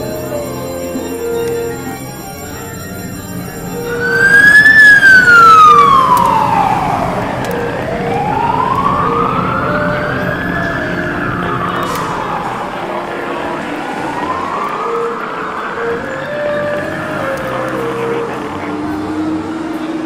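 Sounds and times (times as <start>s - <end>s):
music: 0.0s - 20.0s
wailing siren: 0.0s - 20.0s.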